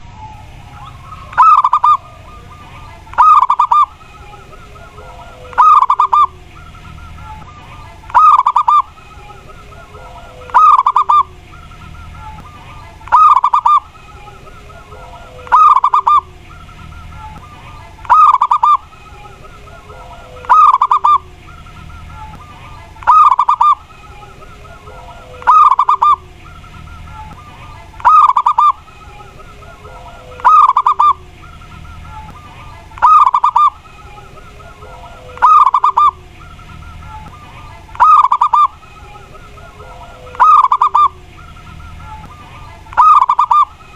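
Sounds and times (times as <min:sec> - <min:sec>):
dove cooing song: 0:00.0 - 0:43.9.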